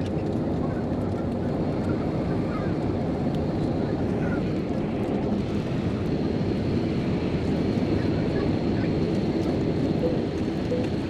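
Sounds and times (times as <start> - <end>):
jet airliner cabin noise: 0.0 - 11.0.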